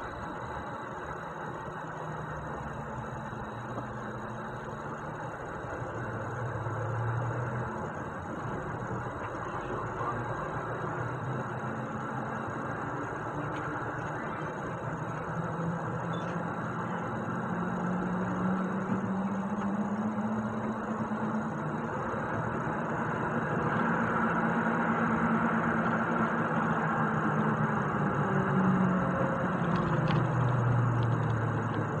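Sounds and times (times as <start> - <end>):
road noise: 0.0 - 32.0
truck diesel engine running: 0.0 - 32.0.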